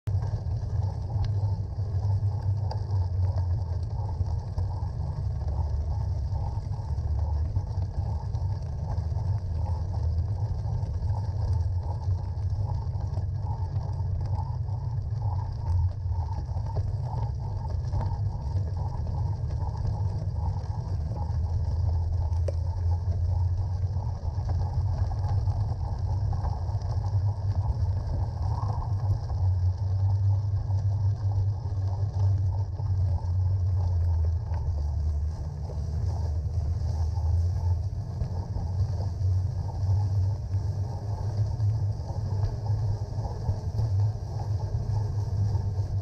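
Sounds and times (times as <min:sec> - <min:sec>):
wind and tyre rumble: 0:00.0 - 0:46.0.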